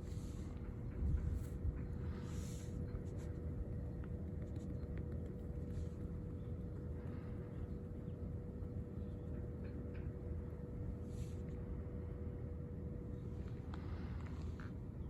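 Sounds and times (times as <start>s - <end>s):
faint steady hum: 0.0s - 15.0s
quiet background rumble: 0.0s - 15.0s.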